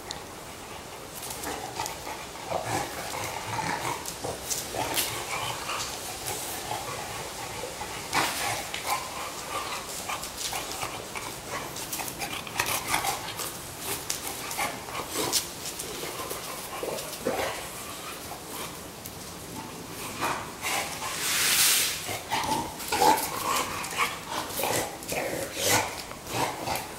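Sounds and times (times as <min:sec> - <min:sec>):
dogs scuffling: 0:00.0 - 0:26.9.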